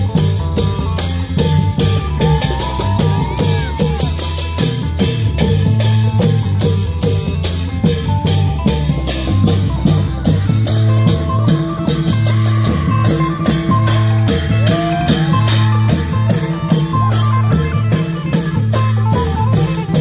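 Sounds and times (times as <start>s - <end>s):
deep drum beats: 0.0s - 20.0s.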